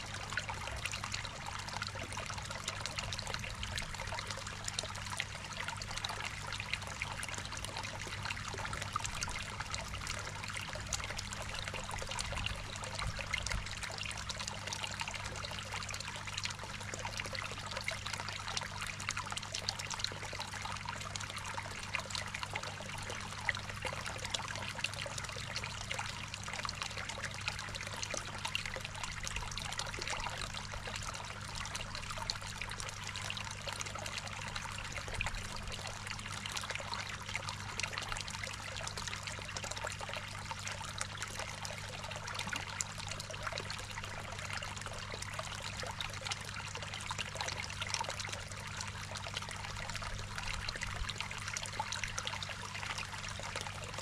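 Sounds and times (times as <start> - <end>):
water trickling into a pond: 0.0 - 54.0.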